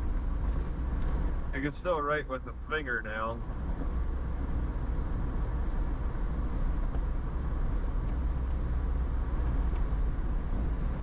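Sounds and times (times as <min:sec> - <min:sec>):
vehicle cabin road and engine rumble: 0:00.0 - 0:11.0.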